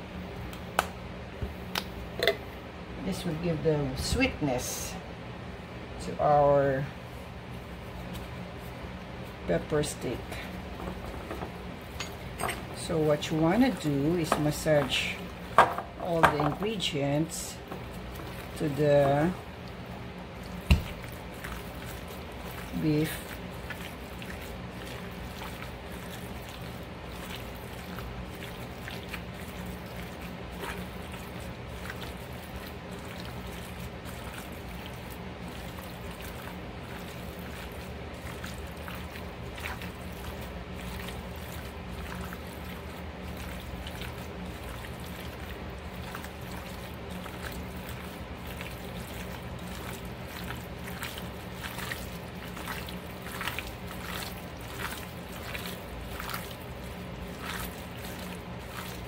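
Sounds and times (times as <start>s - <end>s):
wet squishes of meat: 7.1s - 59.0s.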